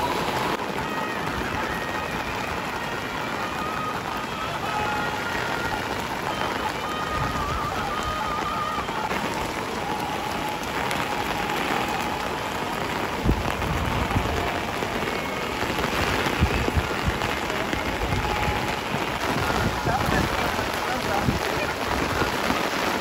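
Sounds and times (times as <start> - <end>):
heavy rain on paving: 0.0 - 23.0.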